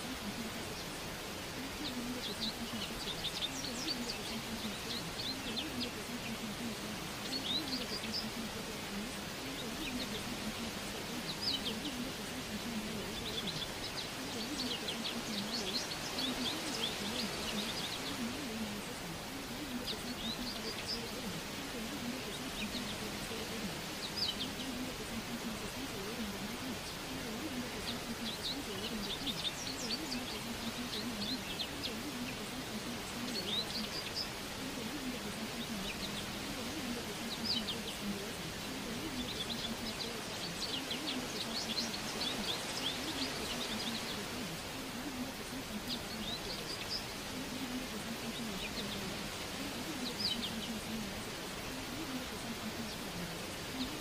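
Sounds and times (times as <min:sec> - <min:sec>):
background hiss: 0:00.0 - 0:54.0
birds chirping: 0:00.0 - 0:54.0
faint low murmur: 0:00.0 - 0:54.0.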